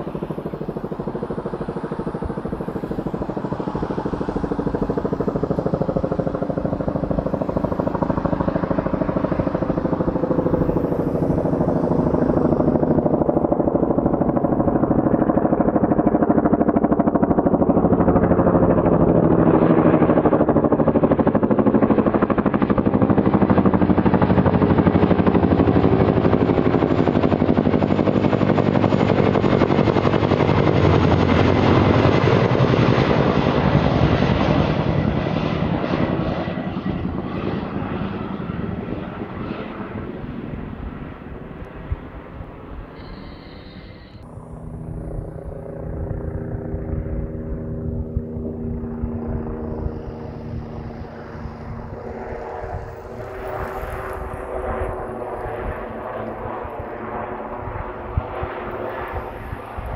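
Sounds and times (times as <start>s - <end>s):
helicopter flying past: 0.0s - 59.9s.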